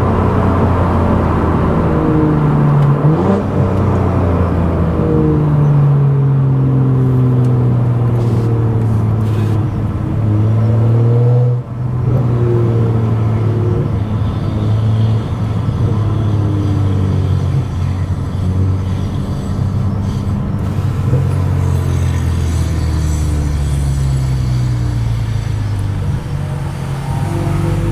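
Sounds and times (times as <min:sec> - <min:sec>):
car engine and loud exhaust accelerating: 0:00.0 - 0:27.9.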